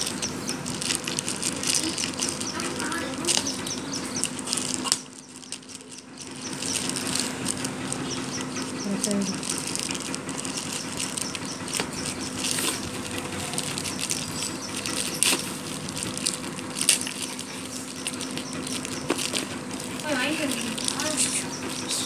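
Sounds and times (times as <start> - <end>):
plastic bag rustling and crinkling: 0.0 - 22.0
steady low hum: 0.0 - 22.0.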